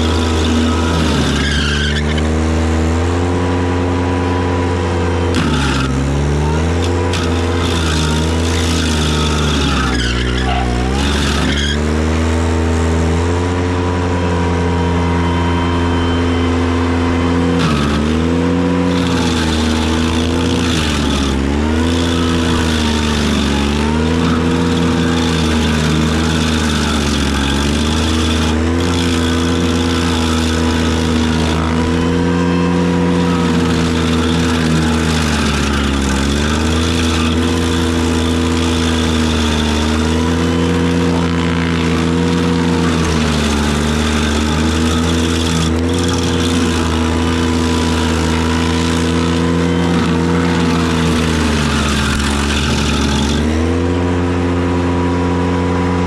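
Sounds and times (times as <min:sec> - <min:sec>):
stump grinder engine under load: 0:00.0 - 0:56.0.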